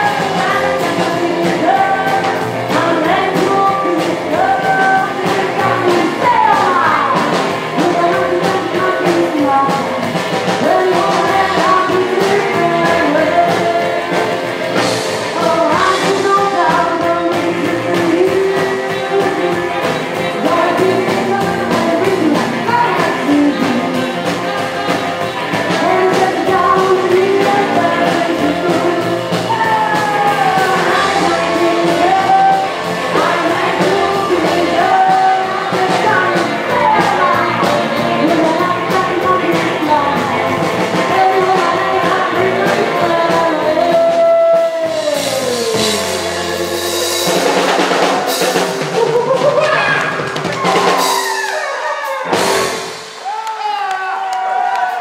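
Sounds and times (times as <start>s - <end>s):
woman singing: 0.0s - 47.5s
saxophone: 0.0s - 53.4s
drums: 0.0s - 55.0s
electric guitar: 0.0s - 55.0s.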